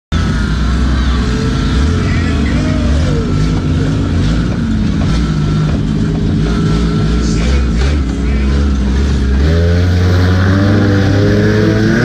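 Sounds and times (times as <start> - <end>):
race car engine running: 0.1 - 12.0.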